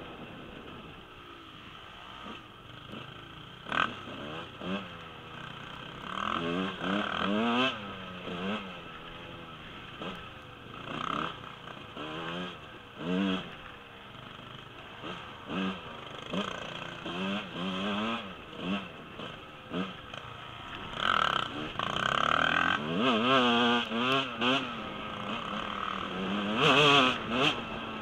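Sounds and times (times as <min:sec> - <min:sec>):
dirt bike engine revving: 0:00.1 - 0:28.0.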